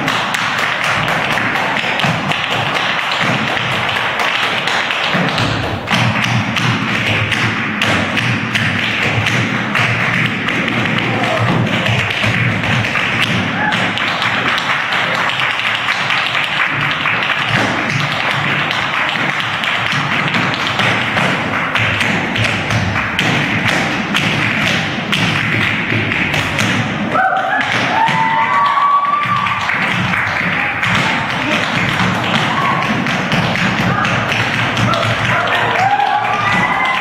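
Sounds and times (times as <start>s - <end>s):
tap shoes on stage floor: 0.0s - 37.0s.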